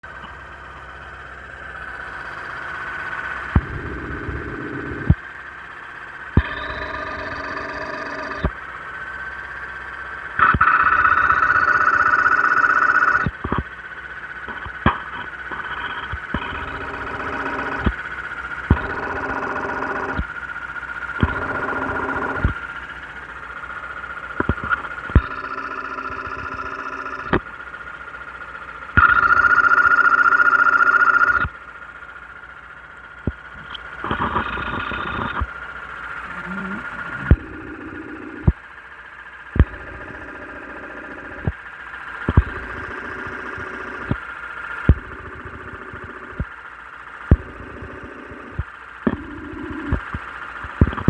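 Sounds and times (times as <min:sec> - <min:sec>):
car engine idling and revving: 0:00.0 - 0:51.0.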